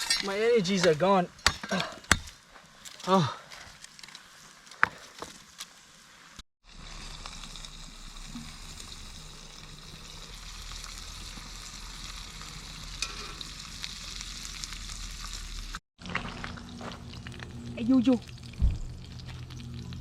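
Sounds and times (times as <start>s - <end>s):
food sizzling while frying: 3.9s - 20.0s.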